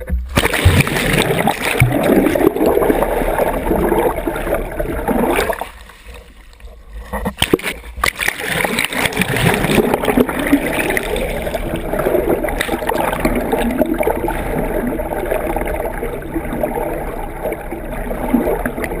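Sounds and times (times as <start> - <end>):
water rushing along boat hull: 0.0 - 19.0.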